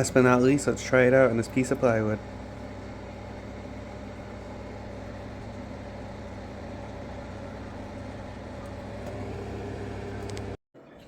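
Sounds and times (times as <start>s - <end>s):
low hum with held tones: 0.0s - 11.0s.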